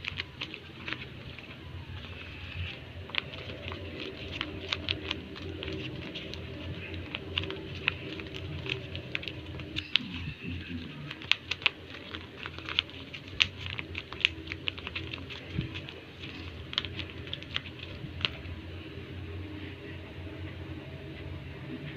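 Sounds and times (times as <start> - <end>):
paper squishy crinkling: 0.0 - 18.6.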